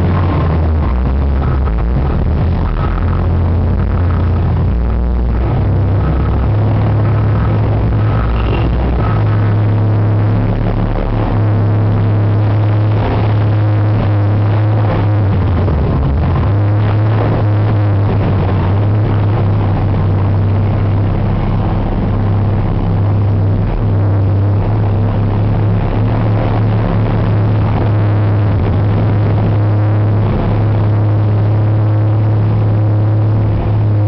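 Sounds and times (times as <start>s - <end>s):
heavy diesel engines droning: 0.0s - 34.0s.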